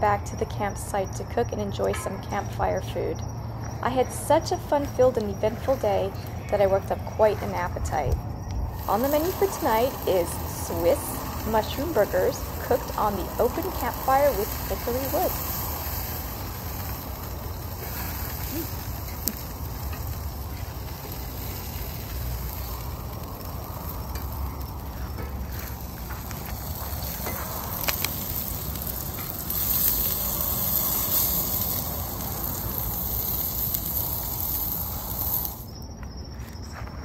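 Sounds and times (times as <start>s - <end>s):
burger patties sizzling: 3.9s - 35.7s.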